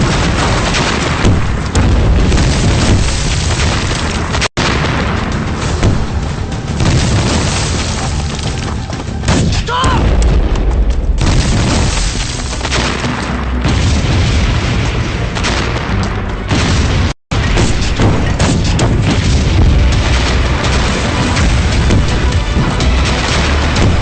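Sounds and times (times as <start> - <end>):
dramatic music: 0.0 - 24.0
explosions booming: 0.0 - 24.0.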